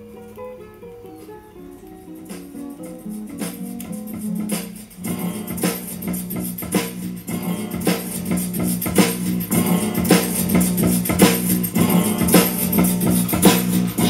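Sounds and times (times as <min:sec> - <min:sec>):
guitar and percussion music: 0:00.0 - 0:14.0.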